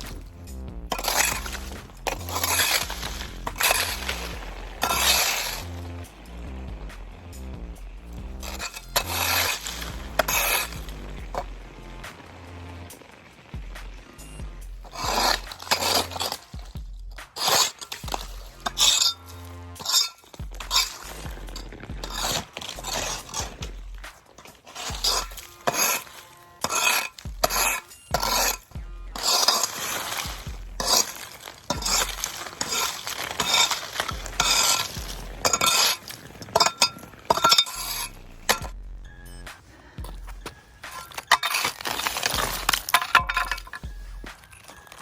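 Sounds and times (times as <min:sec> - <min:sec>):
metal blade scraping ice: 0:00.0 - 0:07.1, 0:07.8 - 0:13.1, 0:14.0 - 0:45.0.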